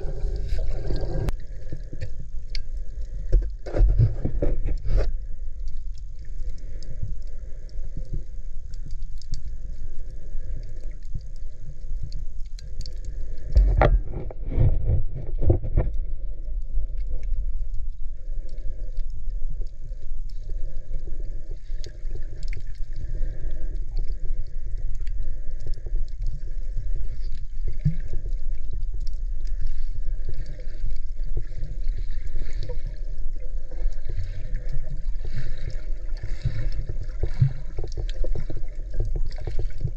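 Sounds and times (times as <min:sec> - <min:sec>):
underwater water rumbling: 0:00.0 - 0:39.9.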